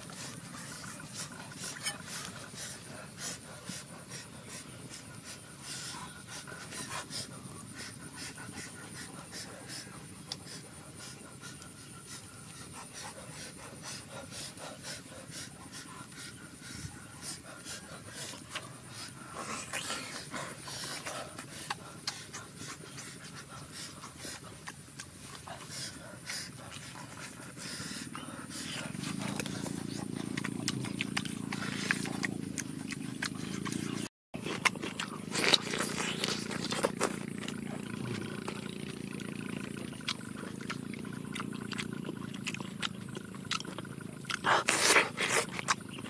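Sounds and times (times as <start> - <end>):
chewing and lip-smacking: 0.0 - 46.0
steady low hum: 0.0 - 46.0.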